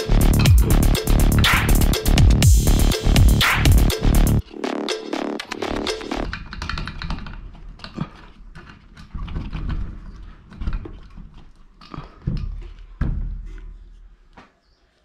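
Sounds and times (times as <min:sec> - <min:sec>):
irregular clicking and knocking: 0:00.0 - 0:13.8.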